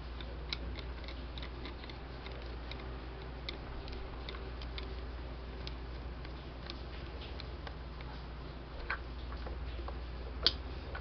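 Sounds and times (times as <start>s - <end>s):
fingers clicking fan motor parts: 0.0s - 11.0s
low steady hum: 0.0s - 11.0s.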